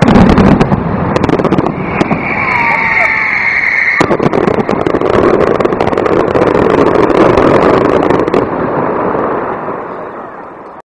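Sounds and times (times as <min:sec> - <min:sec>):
fireworks crackling pops: 0:00.0 - 0:09.7
rushing noise: 0:00.0 - 0:10.8.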